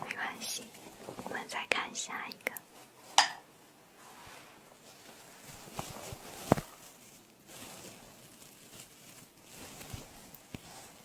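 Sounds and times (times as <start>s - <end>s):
soft rustling of props: 0.0s - 11.0s.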